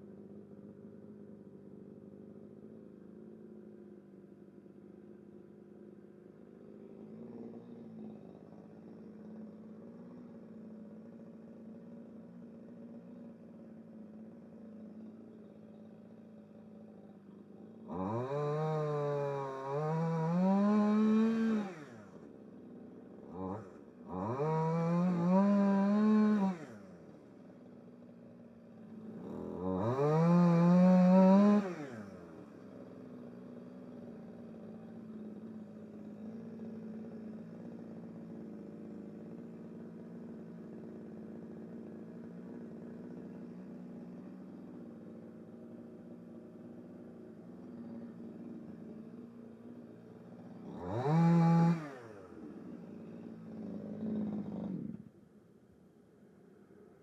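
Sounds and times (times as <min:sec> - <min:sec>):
chainsaw revving and idling: 0:00.0 - 0:55.8.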